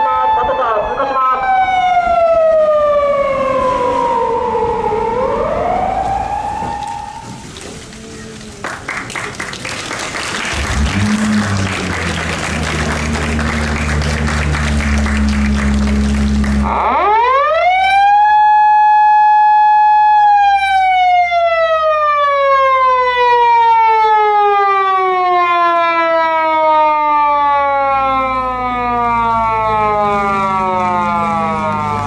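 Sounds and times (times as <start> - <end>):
police car siren wail: 0.0 - 32.0.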